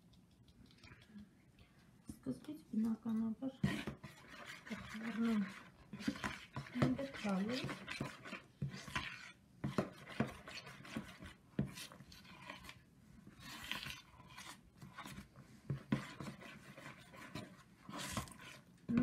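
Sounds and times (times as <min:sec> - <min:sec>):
metal spoon stirring in plastic bowl: 0:00.0 - 0:19.0.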